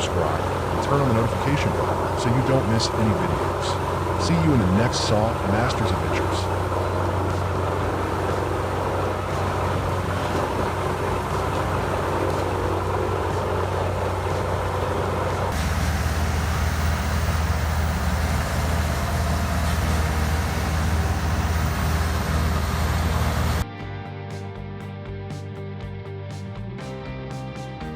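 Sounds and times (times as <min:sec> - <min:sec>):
diesel engine running under load: 0:00.0 - 0:23.7.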